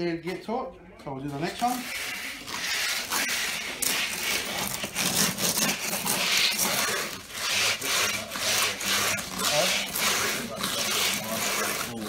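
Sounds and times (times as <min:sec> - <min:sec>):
hand float scraping pebbles: 0:01.3 - 0:12.0.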